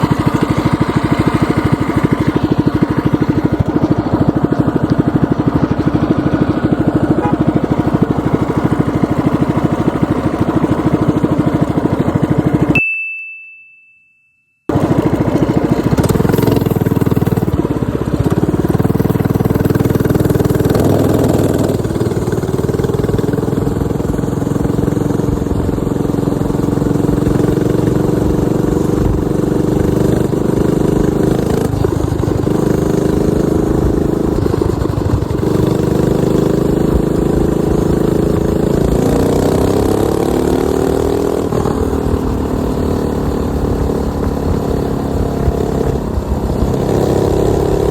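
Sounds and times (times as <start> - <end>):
minibike engine revving: 0.0 - 12.7, 14.7 - 47.9.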